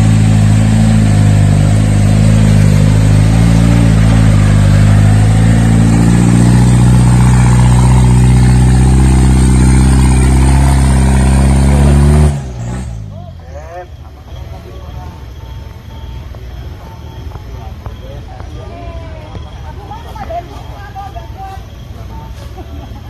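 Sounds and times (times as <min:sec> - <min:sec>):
off-road vehicle engine under load: 0:00.0 - 0:23.0.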